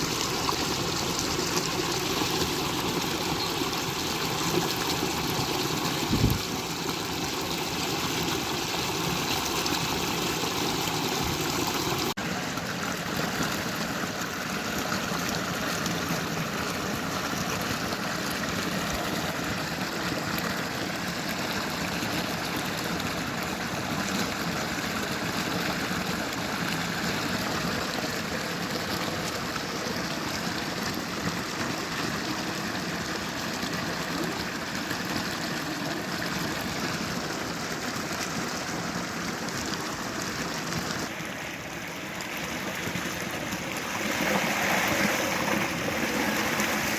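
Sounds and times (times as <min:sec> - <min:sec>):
stream rushing water: 0:00.0 - 0:46.9.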